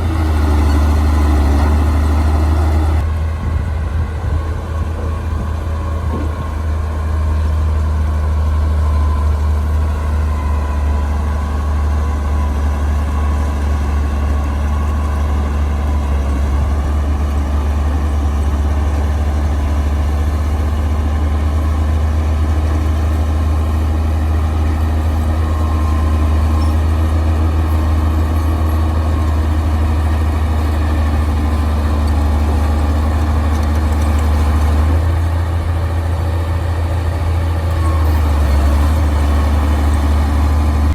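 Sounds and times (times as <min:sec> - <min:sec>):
diesel bulldozer engine running: 0:00.0 - 0:40.9.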